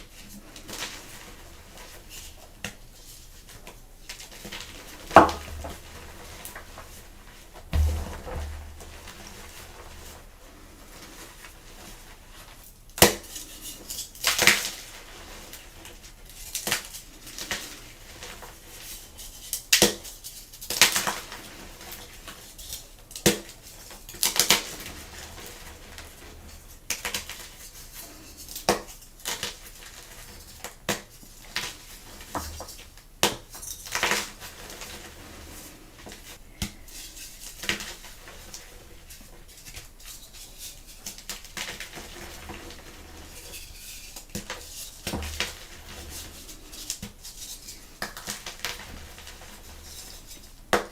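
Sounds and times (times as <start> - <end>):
crumbly rustle: 0.0 - 50.8.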